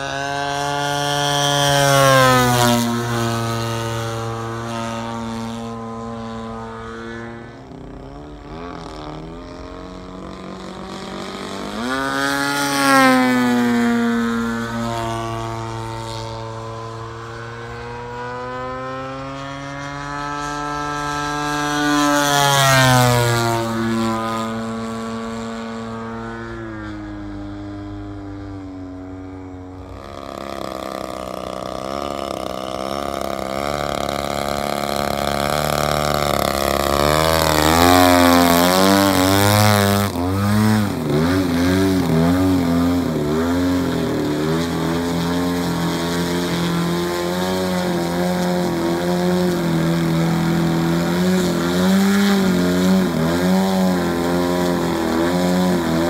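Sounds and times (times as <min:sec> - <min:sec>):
model plane engine in flight: 0:00.0 - 0:56.0.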